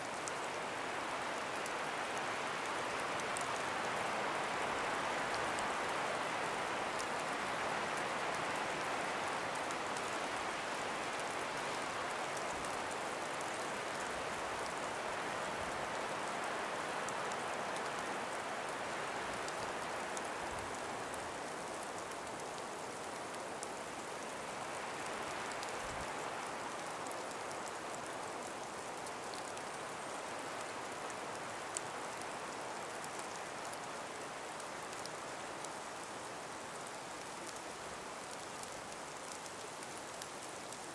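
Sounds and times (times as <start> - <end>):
breeze through snowy trees: 0.0 - 40.9.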